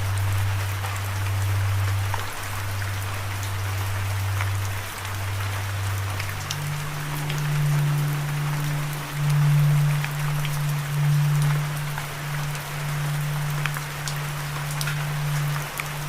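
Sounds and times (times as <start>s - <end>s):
deep sustained drone: 0.0s - 16.0s
rain falling: 0.0s - 16.0s.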